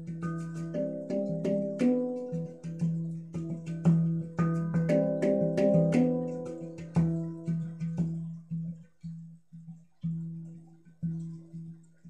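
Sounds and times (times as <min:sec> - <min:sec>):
handpan struck steel notes: 0:00.0 - 0:12.0.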